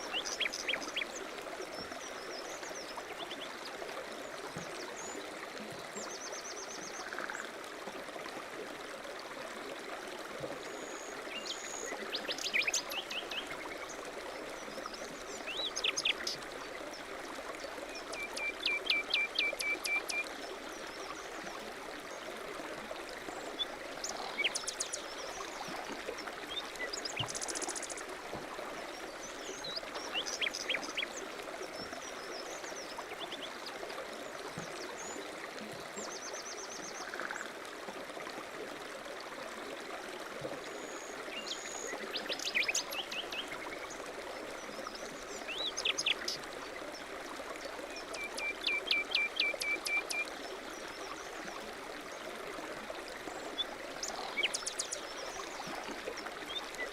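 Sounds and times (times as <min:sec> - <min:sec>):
mountain stream running: 0:00.0 - 0:56.9.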